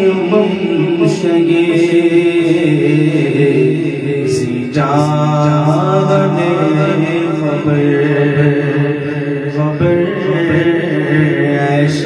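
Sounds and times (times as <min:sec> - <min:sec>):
man singing with echo: 0:00.0 - 0:12.0.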